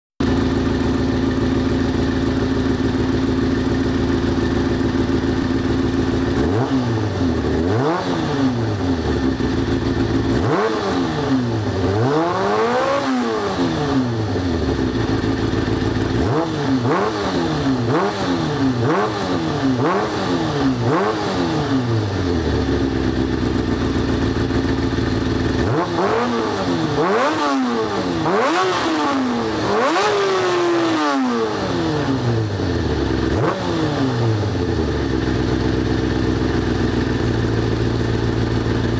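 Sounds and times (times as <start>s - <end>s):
motorcycle engine idling and revving: 0.2s - 38.9s.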